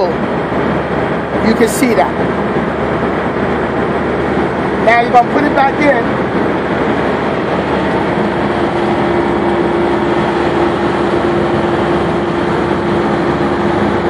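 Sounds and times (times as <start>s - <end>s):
engine running: 0.0s - 14.0s
steady hum: 0.0s - 14.0s.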